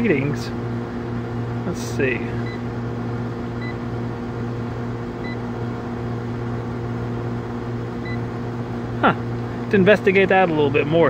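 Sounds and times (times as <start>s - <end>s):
electrical hum of outdoor unit: 0.0s - 11.0s.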